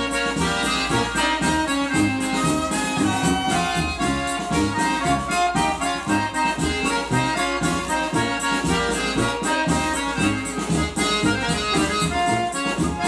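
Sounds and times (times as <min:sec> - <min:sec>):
accordion-led band music: 0:00.0 - 0:13.0
steady bass beat: 0:00.0 - 0:13.0.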